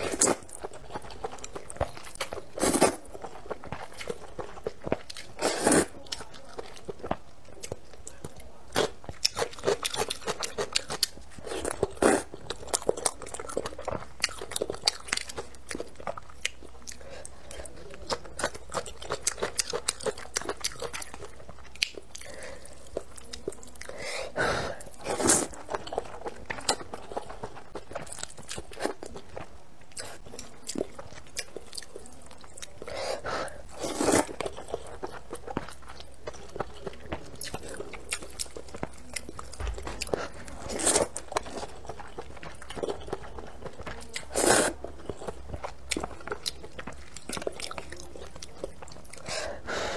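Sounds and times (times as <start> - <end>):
wet chewing with crunching: 0.0 - 49.9.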